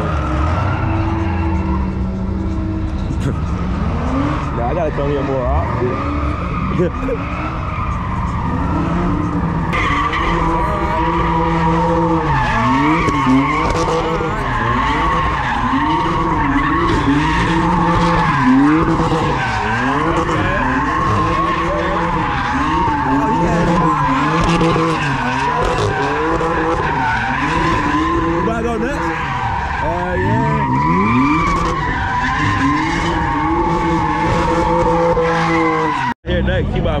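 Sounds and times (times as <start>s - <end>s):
car engine revving hard: 0.0s - 36.2s
car tyres screeching: 0.0s - 37.0s.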